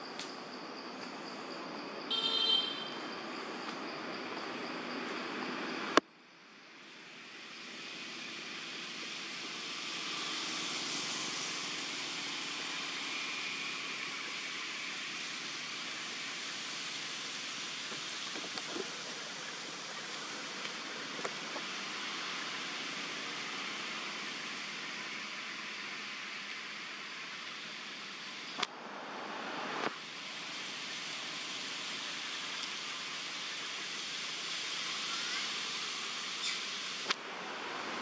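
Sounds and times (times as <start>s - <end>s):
outdoor background hiss: 0.0s - 38.0s.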